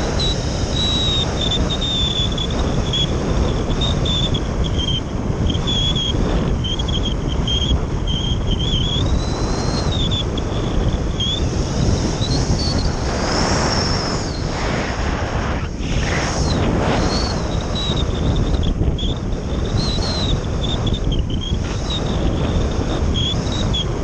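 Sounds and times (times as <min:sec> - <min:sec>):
high whistle wavering in pitch: 0:00.0 - 0:23.9
wind buffeting microphone: 0:00.0 - 0:24.0.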